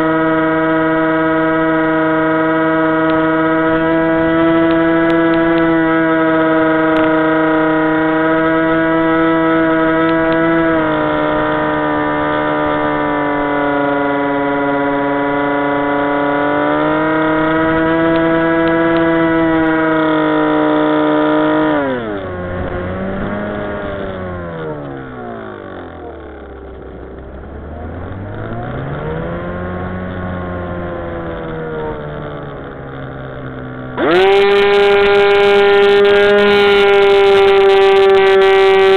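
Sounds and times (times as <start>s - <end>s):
electric motor propeller whine: 0.0s - 38.9s.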